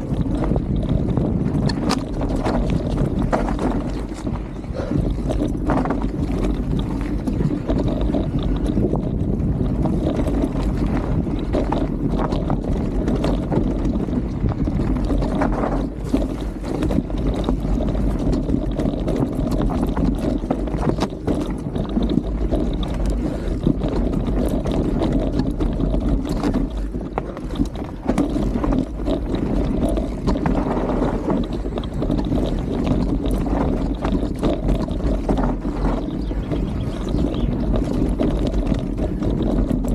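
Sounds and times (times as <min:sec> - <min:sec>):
bike knocks and rattles: 0:00.0 - 0:39.9
bike tyres rumbling on trail: 0:00.0 - 0:39.9
wind on microphone: 0:00.0 - 0:39.9.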